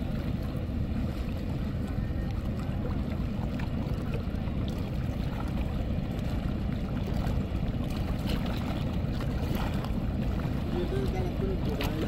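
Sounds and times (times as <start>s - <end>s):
river water: 0.0s - 12.0s
wind buffeting microphone: 0.0s - 12.0s.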